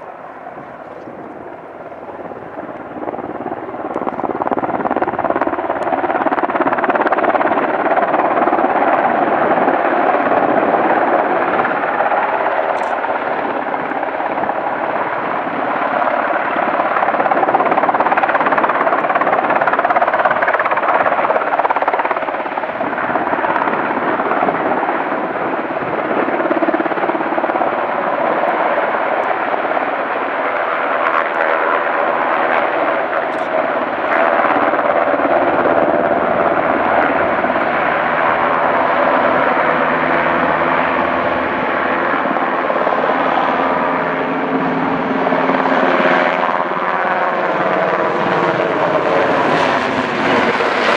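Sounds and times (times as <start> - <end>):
helicopter rotor and turbine: 0.0 - 50.9.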